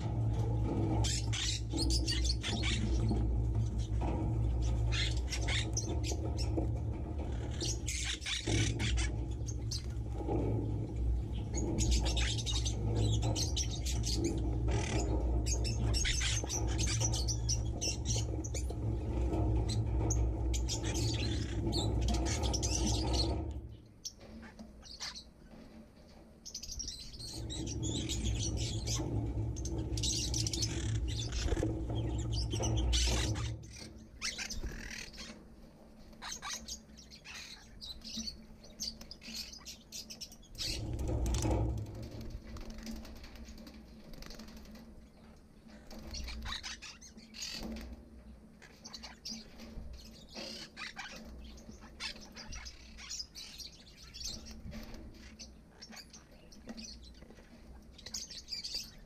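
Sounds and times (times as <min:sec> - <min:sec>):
small birds chirping and chattering: 0:00.0 - 0:59.0.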